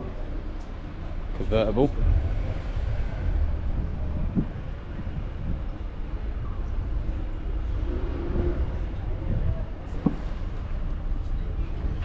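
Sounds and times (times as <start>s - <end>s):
faint distant voices: 0.0s - 12.0s
street background rumble: 0.0s - 12.0s.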